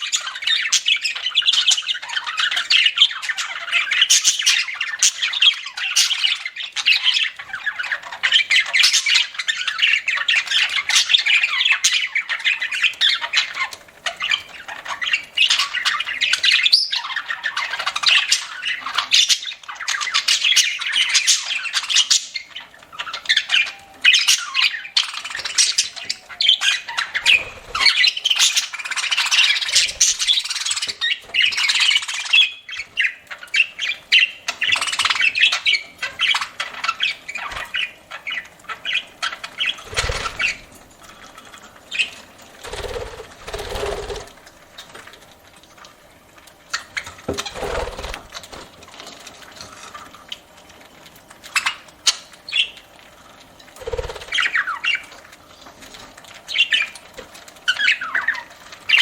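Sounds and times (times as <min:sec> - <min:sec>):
budgerigars chattering and squawking: 0:00.0 - 0:45.0, 0:46.7 - 0:48.7, 0:53.8 - 0:55.2.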